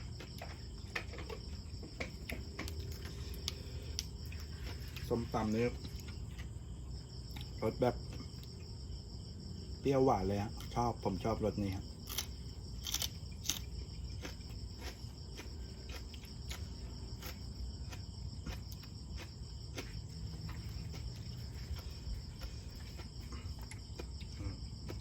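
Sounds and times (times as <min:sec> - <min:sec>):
person chewing: 0:00.0 - 0:08.8, 0:12.0 - 0:25.0.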